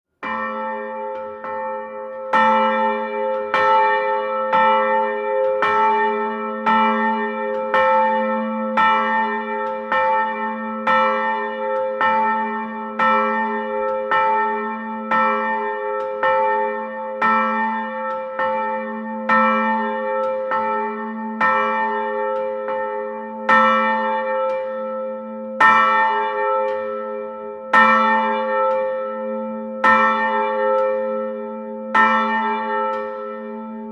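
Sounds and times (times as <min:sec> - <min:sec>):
church bell ringing: 0:00.2 - 0:33.9.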